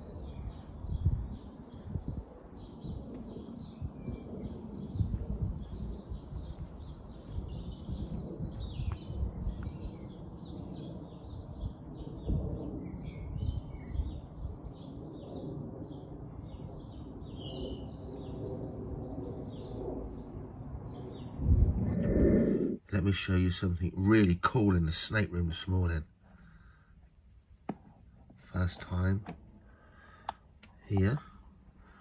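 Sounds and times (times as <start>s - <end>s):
small birds chirping and trilling: 0.0s - 27.0s, 28.0s - 32.0s
steady low rumble: 3.8s - 32.0s.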